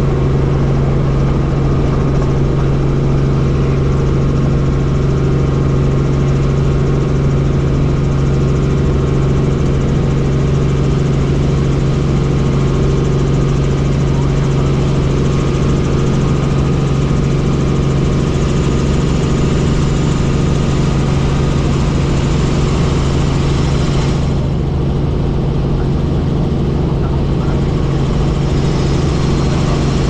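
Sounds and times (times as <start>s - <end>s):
helicopter turbine and rotors: 0.0s - 30.0s.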